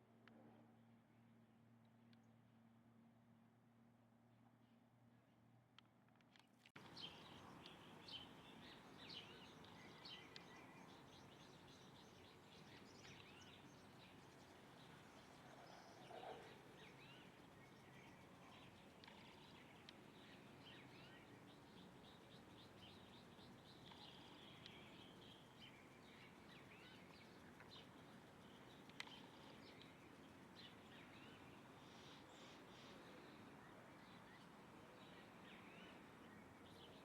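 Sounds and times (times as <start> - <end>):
small birds chirping: 6.8 - 37.0.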